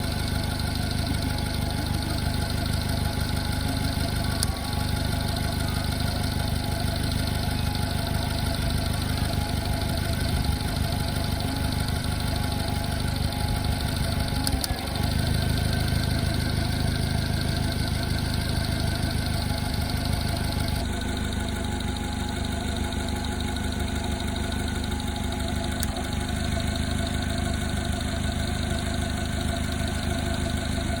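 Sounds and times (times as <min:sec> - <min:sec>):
car engine running: 0:00.0 - 0:31.0
engine clicking tick: 0:00.0 - 0:31.0.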